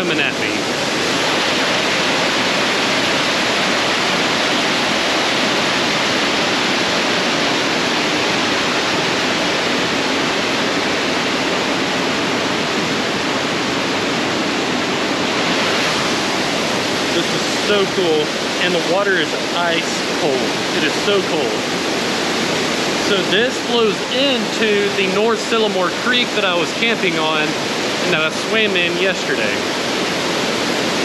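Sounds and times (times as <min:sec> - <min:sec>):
rush of falling water: 0:00.0 - 0:31.0.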